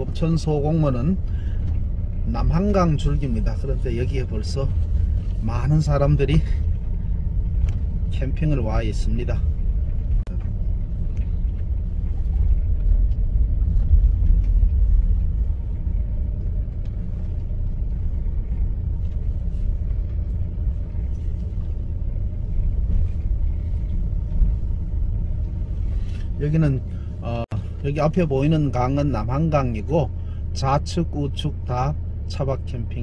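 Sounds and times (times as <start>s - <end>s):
van engine and road rumble: 0.0s - 33.0s.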